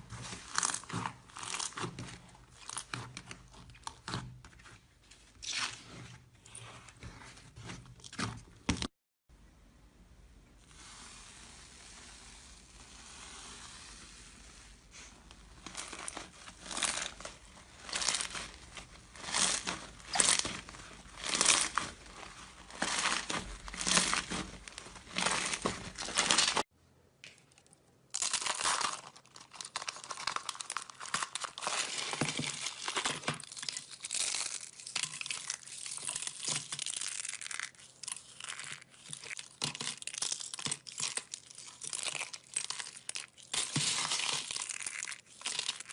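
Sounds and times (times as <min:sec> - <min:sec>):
slime crackling by hand: 0:00.0 - 0:04.8, 0:10.8 - 0:26.6, 0:27.5 - 0:45.9.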